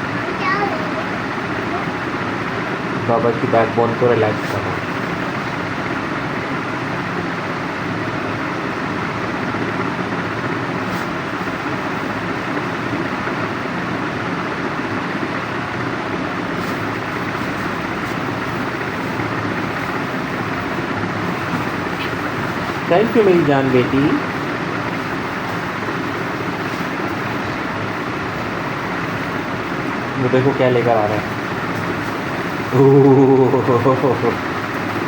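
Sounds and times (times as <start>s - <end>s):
steady mechanical rushing noise: 0.0s - 35.0s.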